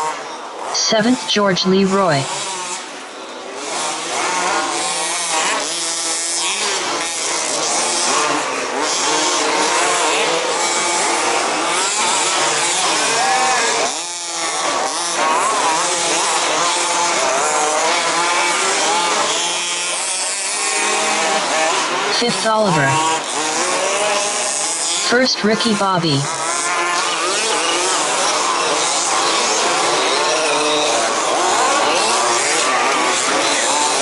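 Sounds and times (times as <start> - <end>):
rc car engines revving: 0.0 - 0.8, 2.3 - 25.2, 26.3 - 34.0.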